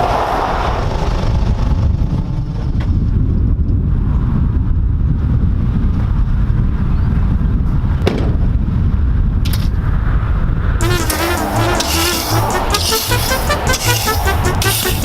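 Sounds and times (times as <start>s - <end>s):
car road and engine rumble: 0.0s - 14.3s.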